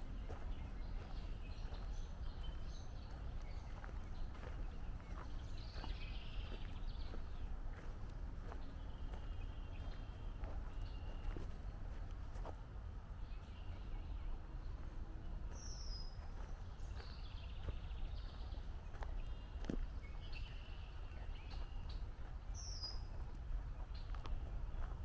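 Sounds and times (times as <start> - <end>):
birds chattering: 0.0 - 12.0, 13.3 - 25.0
soft footsteps on trail: 0.0 - 25.0
steady low rumble: 0.0 - 25.0.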